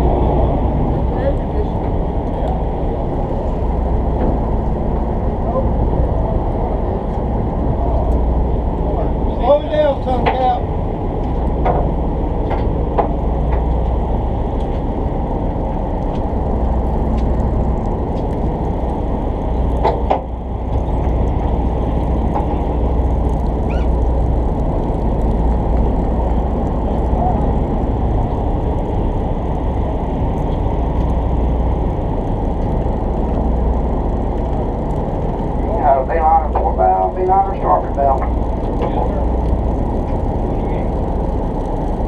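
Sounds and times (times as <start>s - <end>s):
boat engine rumbling: 0.0s - 42.0s.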